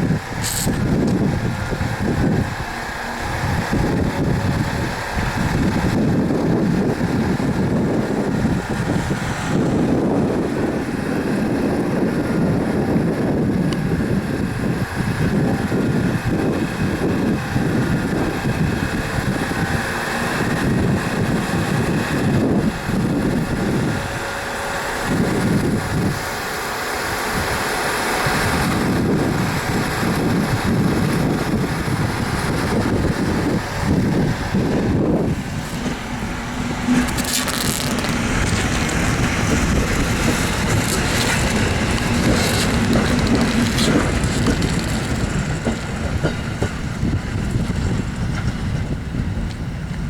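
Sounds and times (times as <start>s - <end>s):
electric train rumbling: 0.0s - 50.0s.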